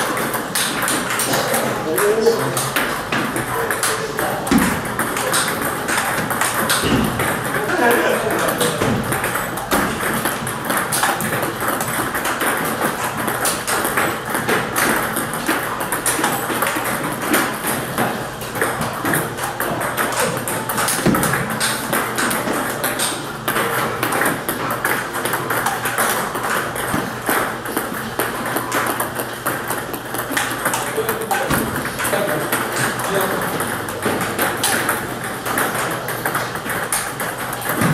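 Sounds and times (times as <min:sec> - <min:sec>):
ball clicks from other tables: 0:00.0 - 0:37.9.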